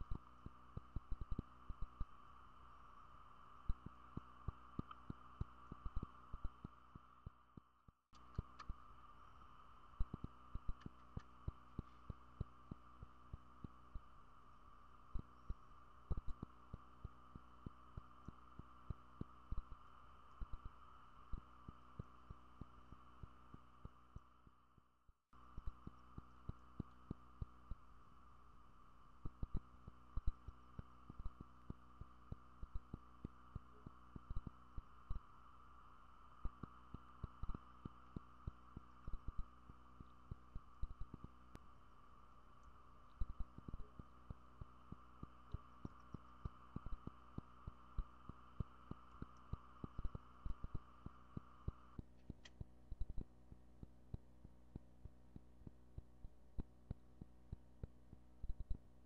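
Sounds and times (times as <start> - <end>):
electrical hum: 0.0 - 59.0
low pops and clicks: 0.0 - 59.0.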